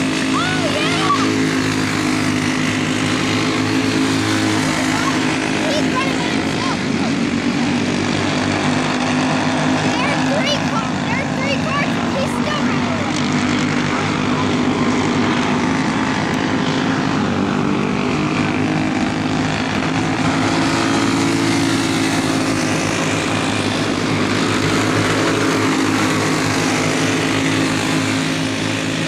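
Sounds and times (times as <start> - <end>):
go-kart engines buzzing: 0.0 - 29.0.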